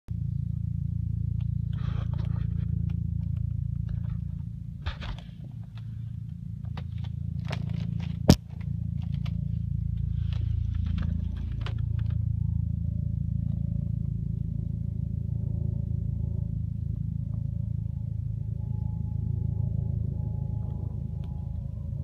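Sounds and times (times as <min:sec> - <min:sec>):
steady low hum: 0:00.1 - 0:22.0.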